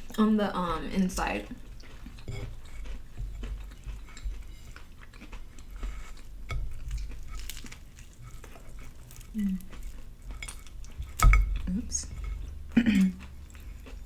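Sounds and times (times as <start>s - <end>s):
chewing with wet smacks: 1.2s - 14.0s.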